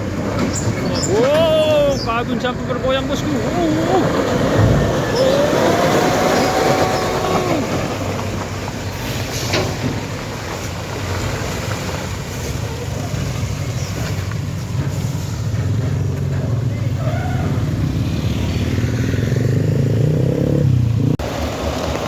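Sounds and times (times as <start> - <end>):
heavy truck rumbling and rattling: 0.0 - 22.0.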